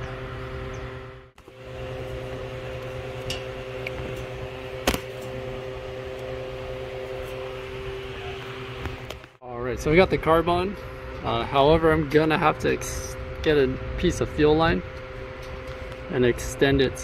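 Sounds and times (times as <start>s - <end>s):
machine hum with two tones: 0.0s - 17.0s.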